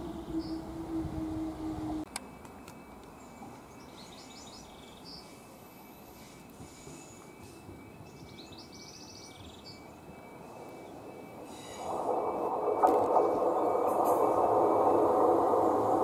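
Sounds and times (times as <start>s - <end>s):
birds chirping: 0.0s - 16.0s
train engine and wheels rumbling: 0.0s - 16.0s.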